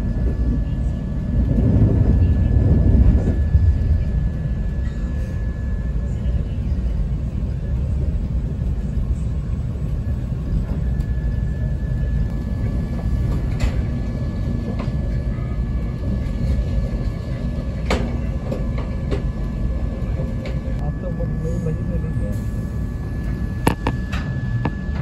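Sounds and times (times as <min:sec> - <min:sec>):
train interior rumble: 0:00.0 - 0:25.0.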